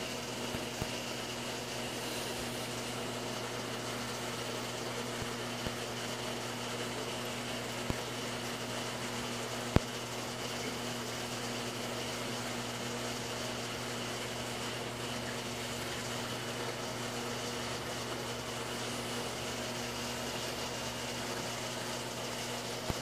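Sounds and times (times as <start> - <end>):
aquarium pump hum and water hiss: 0.0 - 23.0.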